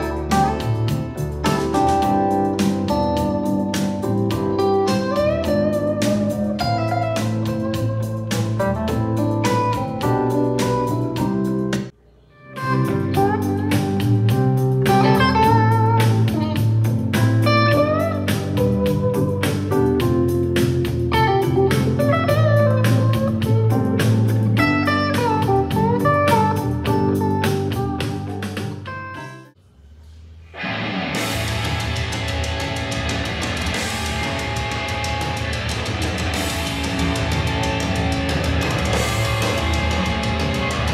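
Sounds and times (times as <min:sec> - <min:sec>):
guitar music with heavy bass: 0:00.0 - 0:29.5, 0:30.6 - 0:40.9.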